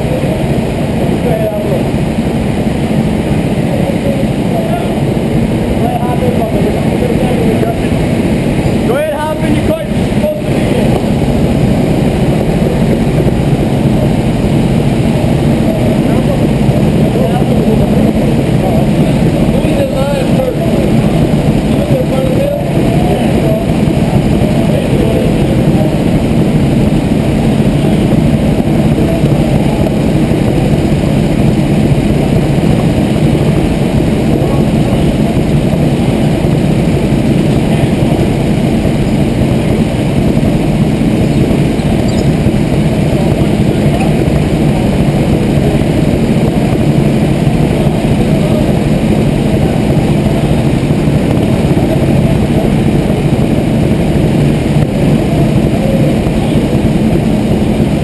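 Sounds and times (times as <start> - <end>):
go-kart engines running: 3.0 - 58.0.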